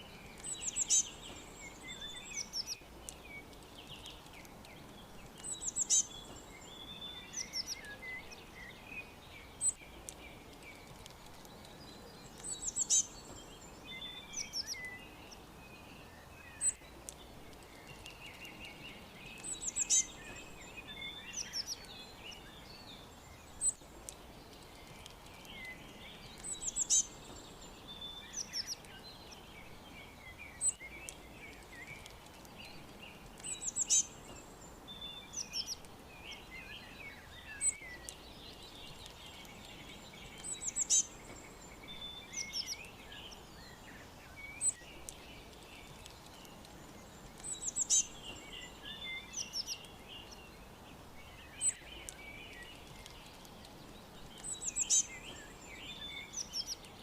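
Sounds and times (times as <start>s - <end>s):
faint background hiss: 0.0s - 57.0s
songbirds chirping and twittering: 0.0s - 57.0s.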